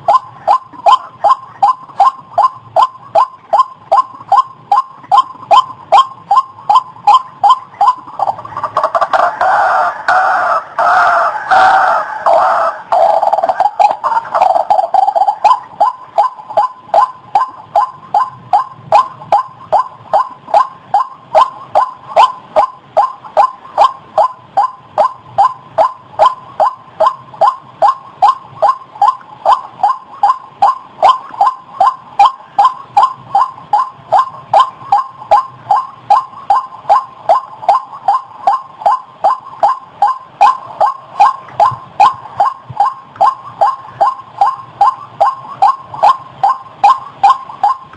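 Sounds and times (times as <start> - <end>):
waterhen calling: 0.0 - 47.9.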